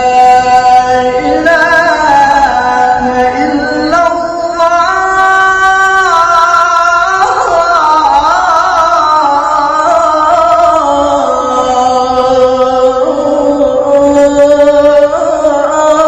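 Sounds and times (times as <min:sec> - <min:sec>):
man singing call to prayer: 0:00.0 - 0:16.0.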